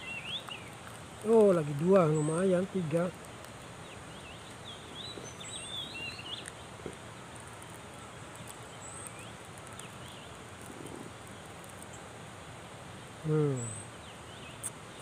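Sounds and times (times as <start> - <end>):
birds chirping: 0.0 - 15.0
rural background hiss: 0.0 - 15.0.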